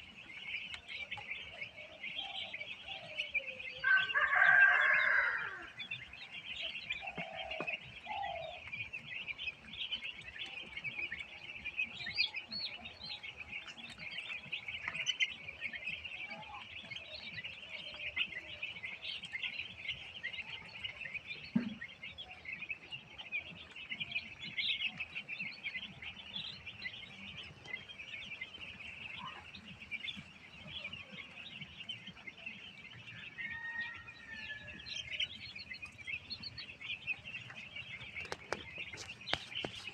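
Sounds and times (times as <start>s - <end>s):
chicken clucks: 0.0s - 39.9s
chickens peeping and chirping: 0.0s - 39.9s.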